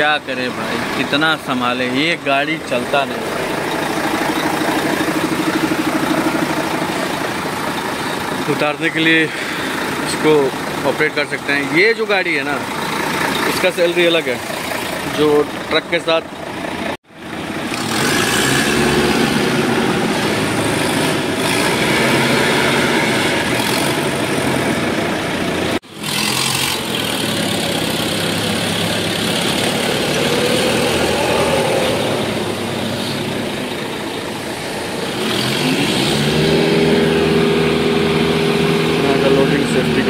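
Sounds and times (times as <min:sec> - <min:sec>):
forklift engine running: 0:00.0 - 0:40.0.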